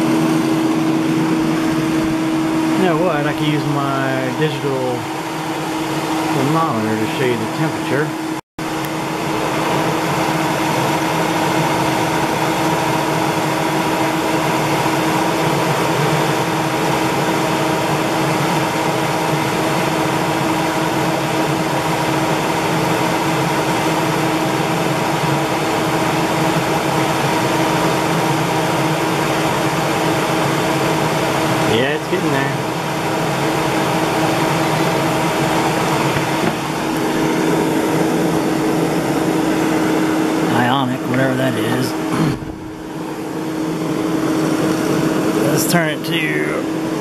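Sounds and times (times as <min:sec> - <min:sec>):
hair dryer running: 0:00.0 - 0:47.0.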